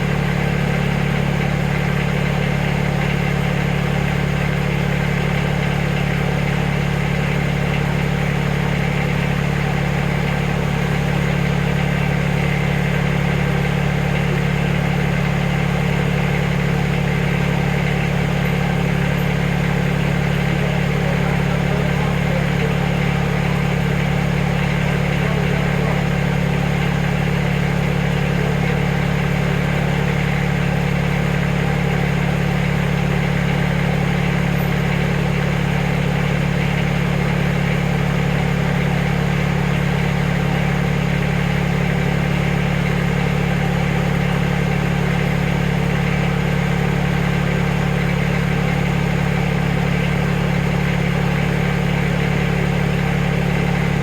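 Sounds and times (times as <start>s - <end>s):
backhoe engine idling: 0.0s - 54.0s.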